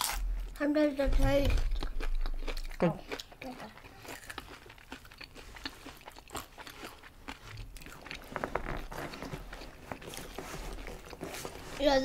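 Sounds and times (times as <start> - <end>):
crunchy chewing: 0.0 - 11.8.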